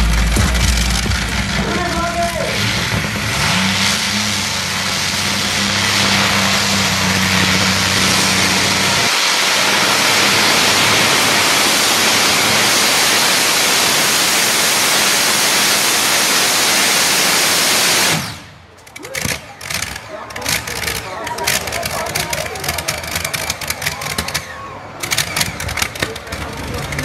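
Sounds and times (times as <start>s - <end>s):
aircraft engines roaring: 0.0s - 27.0s.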